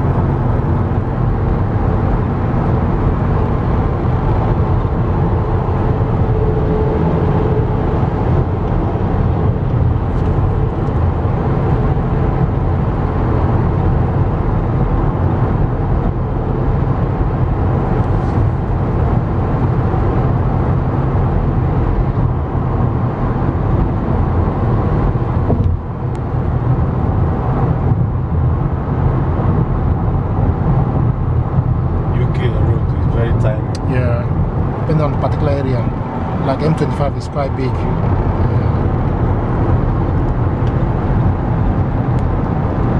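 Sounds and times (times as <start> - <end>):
car engine noise: 0.0 - 42.9.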